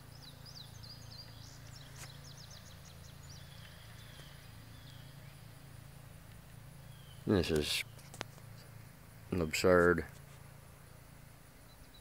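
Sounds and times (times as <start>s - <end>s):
faint birdsong chirps: 0.0s - 12.0s
steady low hum: 0.0s - 12.0s.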